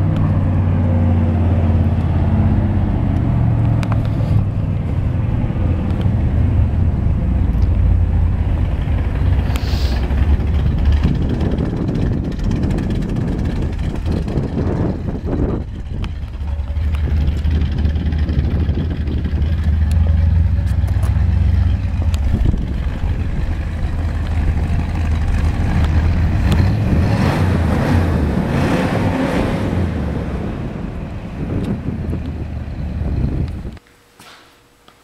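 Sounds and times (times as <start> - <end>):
car engine idling: 0.0 - 33.8.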